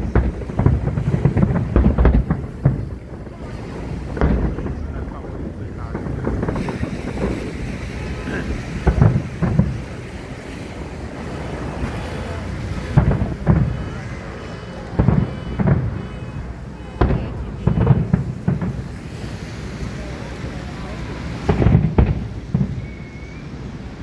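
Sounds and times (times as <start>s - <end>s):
background rumble: 0.0s - 24.0s
fireworks bursting with deep booms: 0.0s - 24.0s.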